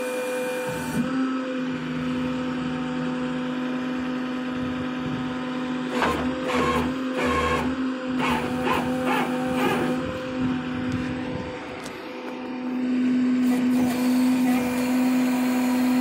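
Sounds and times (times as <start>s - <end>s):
diesel truck engine whine: 0.0s - 16.0s.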